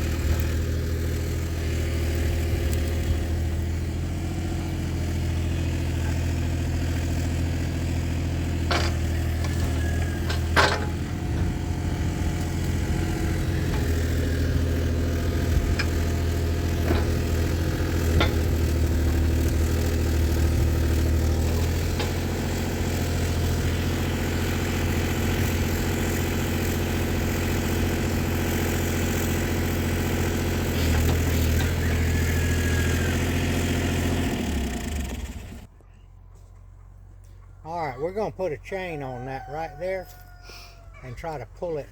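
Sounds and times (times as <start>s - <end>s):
engine idling: 0.0s - 37.6s.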